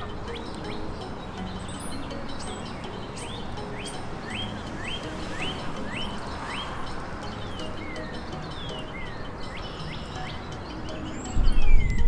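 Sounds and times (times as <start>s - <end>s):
songbird whistling: 0.0s - 12.0s
steady background noise: 0.0s - 12.0s.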